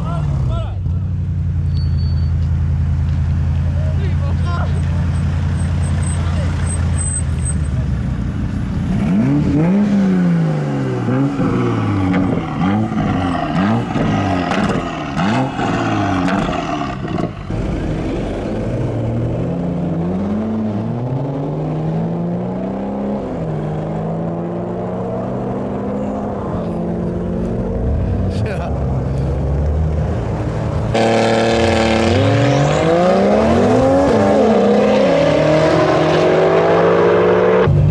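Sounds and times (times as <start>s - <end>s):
car engine revving: 2.6s - 37.9s.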